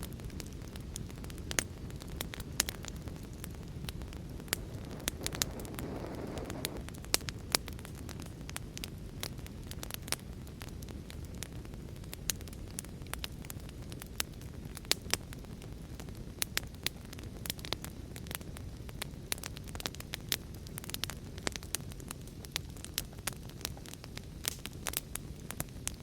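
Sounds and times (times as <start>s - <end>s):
low fire rumble: 0.0s - 26.0s
wood fire crackling: 0.0s - 26.0s.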